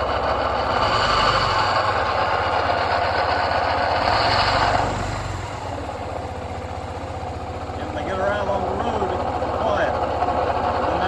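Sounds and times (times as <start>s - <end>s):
scooter idling: 0.0s - 11.0s.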